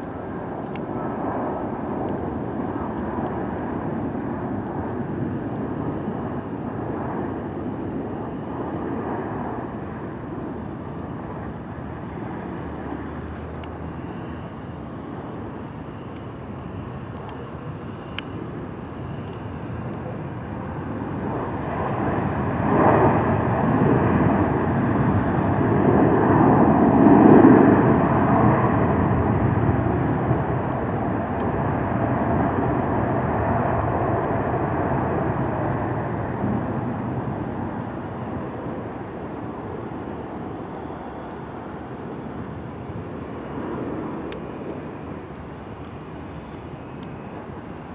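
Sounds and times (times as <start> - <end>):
jet engine rumble: 0.0 - 47.9.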